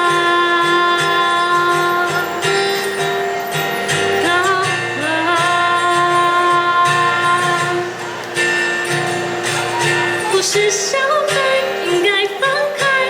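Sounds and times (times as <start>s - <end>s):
held melody notes bending: 0.0s - 12.8s
guitar accompaniment: 0.0s - 13.0s.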